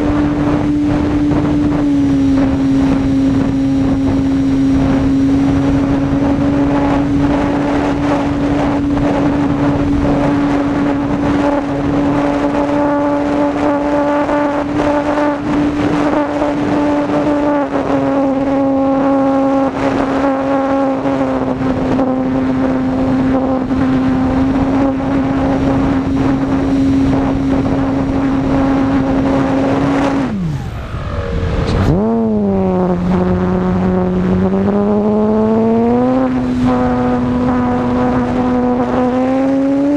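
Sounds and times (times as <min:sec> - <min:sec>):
rushing wind noise: 0:00.0 - 0:39.9.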